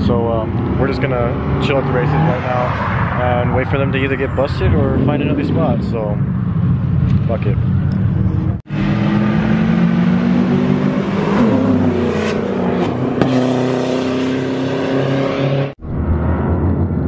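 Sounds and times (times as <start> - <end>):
car engines revving and accelerating: 0.0 - 17.0.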